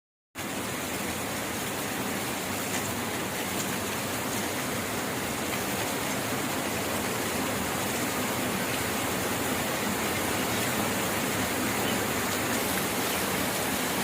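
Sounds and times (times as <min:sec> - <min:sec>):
heavy rain pouring: 0:00.4 - 0:14.0.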